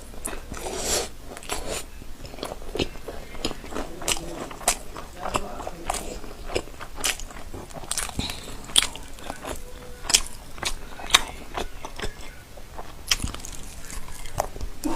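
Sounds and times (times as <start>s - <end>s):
crunchy food chewing: 0.0s - 14.9s.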